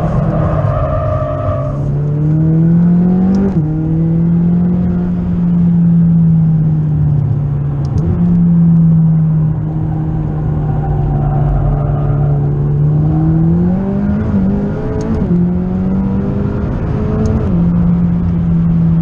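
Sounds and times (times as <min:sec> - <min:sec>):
car engine revving in cabin: 0:01.4 - 0:19.0.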